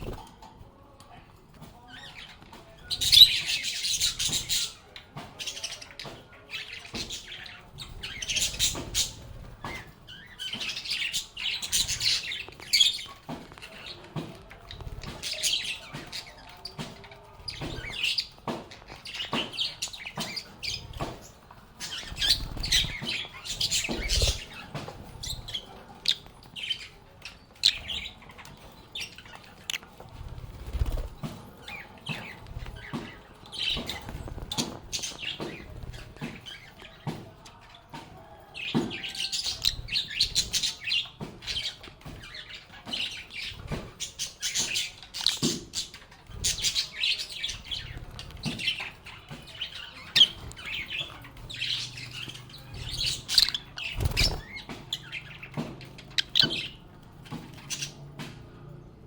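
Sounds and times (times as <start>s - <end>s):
lovebirds chirping: 1.7s - 58.2s.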